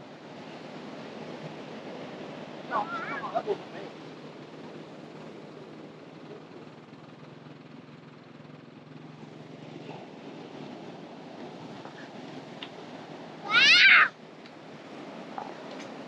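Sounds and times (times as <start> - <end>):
distant engine hum: 0.0 - 16.0
surf on beach: 0.0 - 16.0
wind: 0.0 - 16.0.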